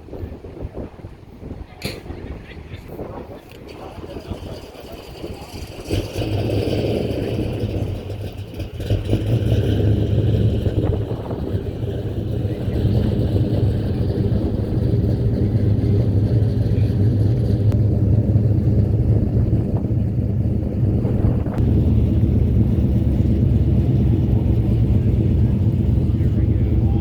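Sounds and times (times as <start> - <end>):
car engine running: 3.7 - 27.0.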